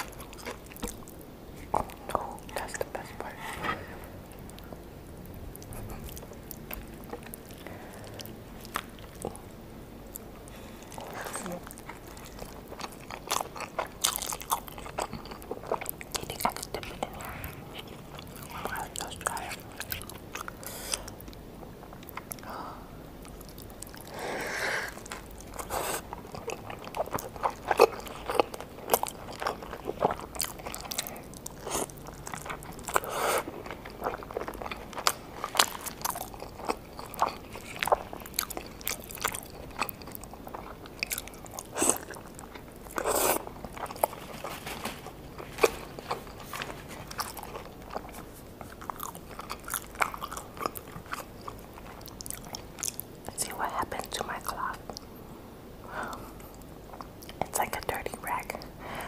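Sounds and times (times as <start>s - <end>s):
crackly wet chewing: 0.0s - 55.2s, 55.9s - 59.0s.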